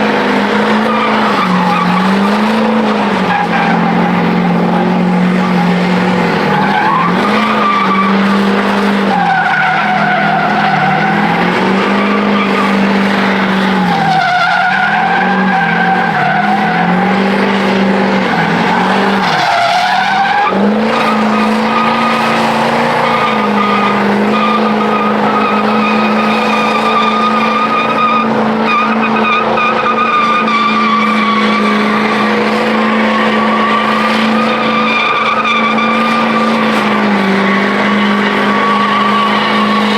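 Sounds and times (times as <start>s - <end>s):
truck engine at high revs: 0.0s - 39.9s
tyres squealing on pavement: 0.0s - 39.9s.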